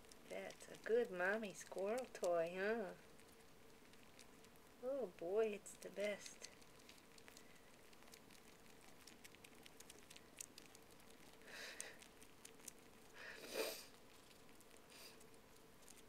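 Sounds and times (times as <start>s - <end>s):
kittens suckling clicks and smacks: 0.0s - 16.0s.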